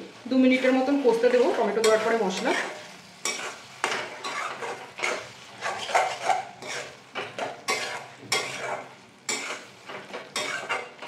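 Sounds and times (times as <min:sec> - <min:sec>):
spatula scraping a metal pan: 0:00.7 - 0:11.0.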